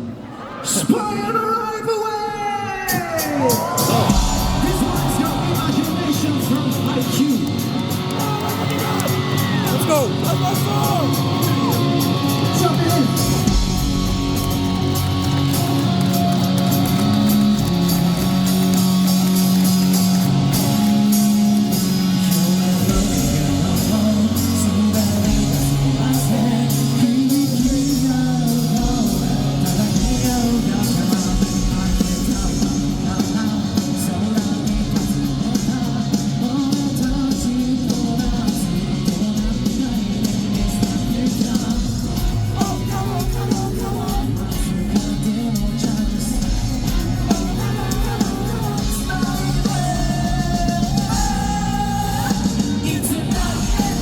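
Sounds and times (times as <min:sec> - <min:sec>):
person singing: 0:02.9 - 0:54.0
live rock band playing: 0:03.2 - 0:54.0.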